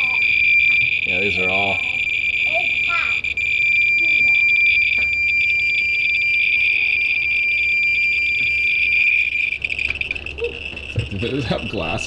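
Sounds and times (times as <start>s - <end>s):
radiation detector tone with clicks: 0.0s - 12.0s.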